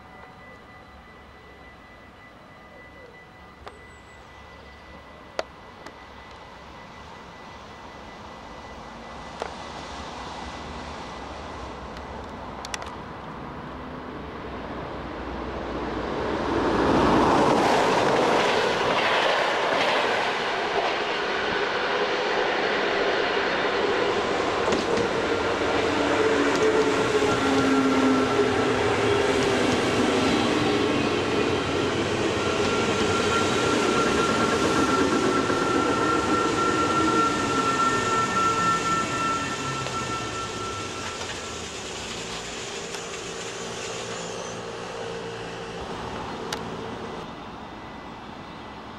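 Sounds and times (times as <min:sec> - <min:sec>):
steady whining tones: 0:00.0 - 0:12.9, 0:18.0 - 0:48.9
electric train passing: 0:00.0 - 0:48.9.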